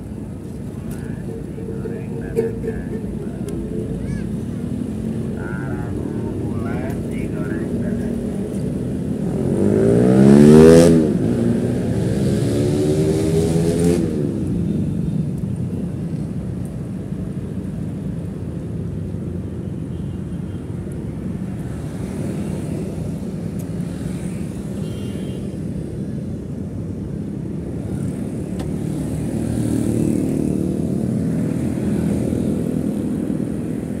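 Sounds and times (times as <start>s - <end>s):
road noise: 0.0s - 34.0s.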